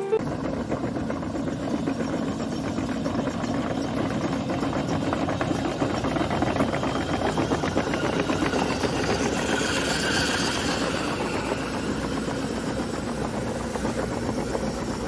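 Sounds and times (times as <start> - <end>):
excavator engine running: 0.0 - 15.0
steel tracks clattering: 2.9 - 15.0.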